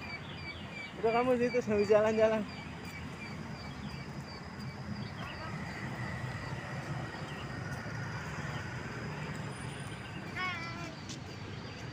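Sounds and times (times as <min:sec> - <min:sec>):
low rumble of road traffic: 0:00.0 - 0:11.9.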